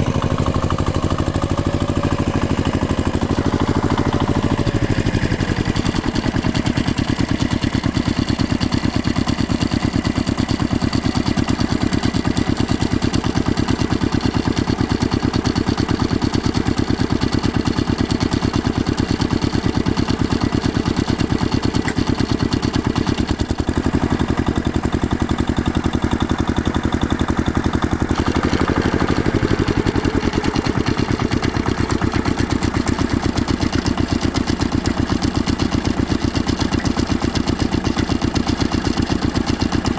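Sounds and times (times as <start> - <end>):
heavy machine engine pulsing: 0.0 - 9.7, 15.6 - 39.9.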